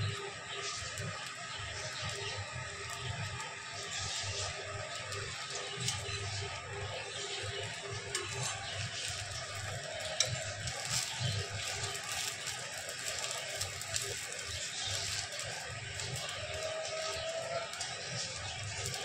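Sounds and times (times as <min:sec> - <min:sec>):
batter sizzling in a pan: 0:00.0 - 0:19.0.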